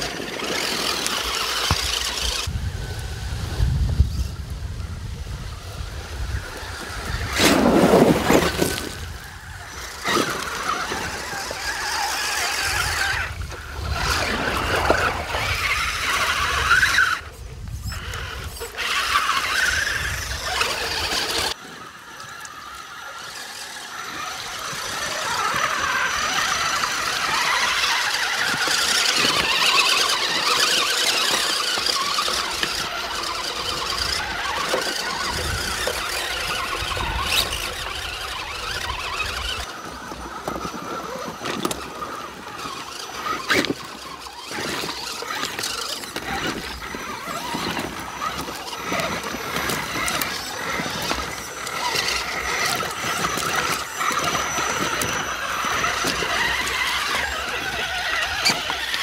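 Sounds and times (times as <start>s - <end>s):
rc truck electric motors whining: 0.0s - 59.0s.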